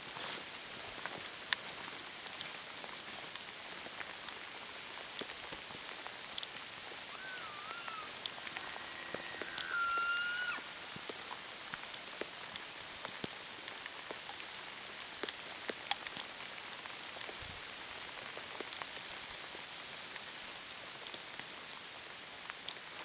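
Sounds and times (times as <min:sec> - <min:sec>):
light rain hissing: 0:00.0 - 0:23.0
raindrops ticking: 0:00.4 - 0:23.0.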